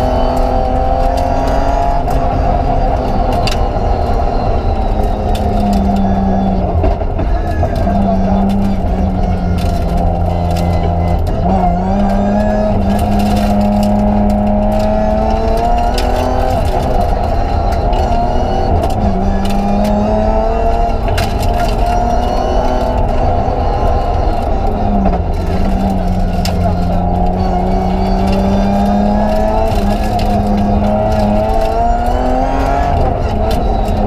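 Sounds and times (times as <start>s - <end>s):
rally car engine revving: 0.0s - 34.0s
sharp clicks: 3.0s - 34.0s.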